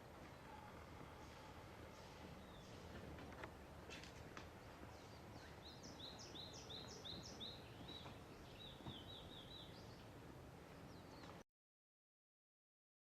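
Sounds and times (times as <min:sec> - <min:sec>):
songbird singing: 0:00.0 - 0:03.5, 0:04.4 - 0:11.4
outdoor hiss: 0:00.0 - 0:11.4.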